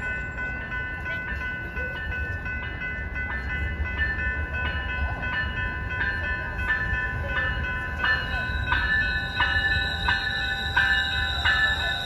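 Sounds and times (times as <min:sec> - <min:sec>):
crossing warning bell ringing: 0:00.0 - 0:12.0
train rumbling: 0:00.0 - 0:12.0.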